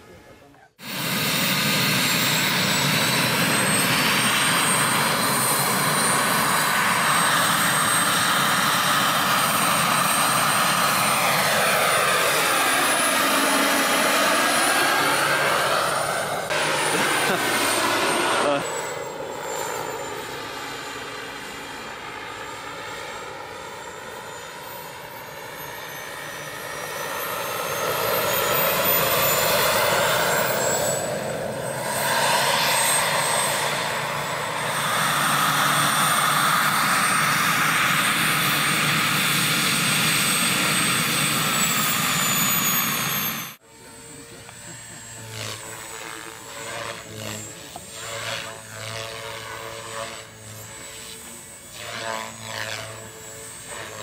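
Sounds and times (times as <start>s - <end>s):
model helicopter whining rotor: 0.0s - 54.0s
pulsing helicopter rotor: 0.0s - 54.0s.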